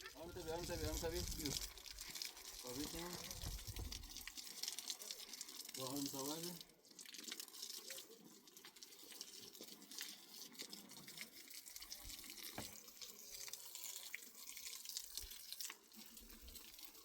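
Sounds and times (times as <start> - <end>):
faint running water splashing: 0.0 - 17.0
water dripping: 0.0 - 17.0.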